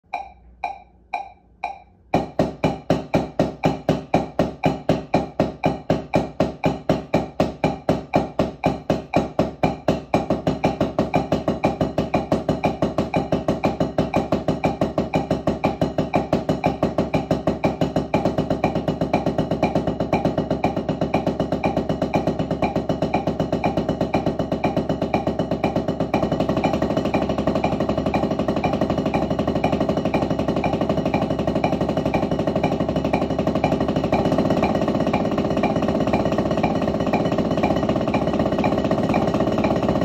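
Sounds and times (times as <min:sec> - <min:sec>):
backing music: 0:00.0 - 0:40.0
drumsticks on practice pad: 0:00.0 - 0:40.0
count-in clicks: 0:00.1 - 0:40.0.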